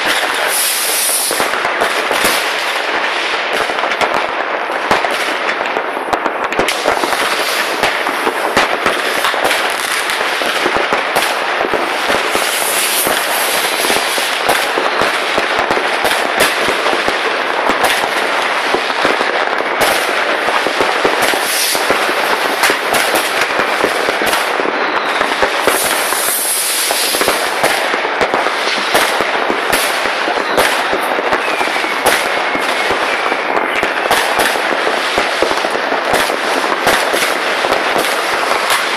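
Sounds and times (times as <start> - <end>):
firecrackers and rocket bangs: 0.0 - 38.9.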